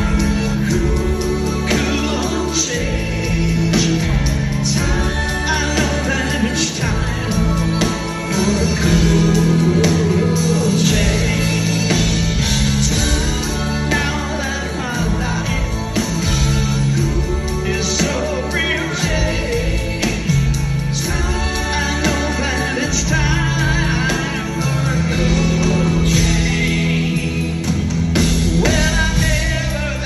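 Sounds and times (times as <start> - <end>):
live rock band playing: 0.0 - 30.0
long held bass notes: 0.0 - 30.0.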